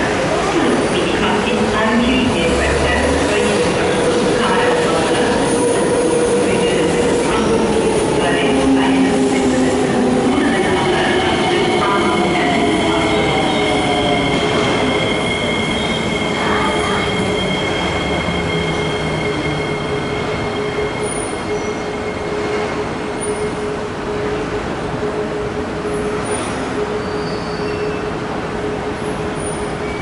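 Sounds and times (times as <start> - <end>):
electric train whine: 0.0 - 30.0.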